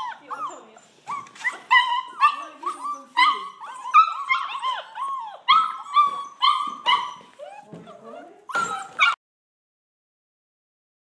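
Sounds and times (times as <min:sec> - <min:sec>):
puppies whining and yipping: 0:00.0 - 0:09.2.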